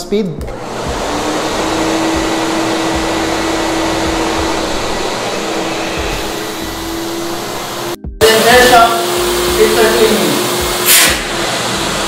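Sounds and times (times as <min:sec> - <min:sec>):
industrial vacuum running: 0:00.5 - 0:12.0.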